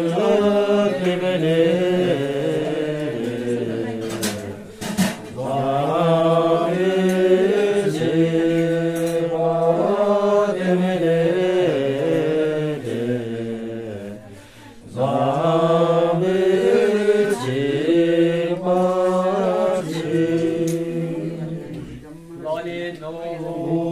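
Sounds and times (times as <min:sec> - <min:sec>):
voices chanting a prayer: 0:00.0 - 0:23.9.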